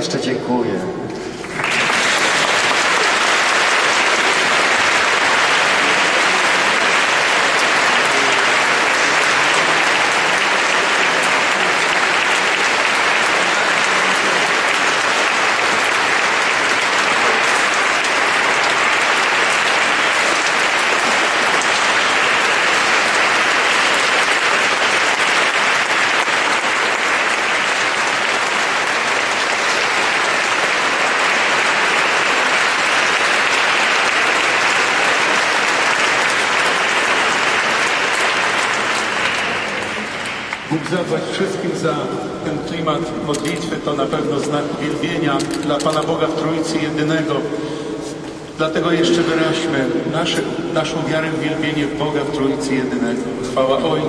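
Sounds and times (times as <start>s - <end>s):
crowd applause: 1.2s - 52.9s.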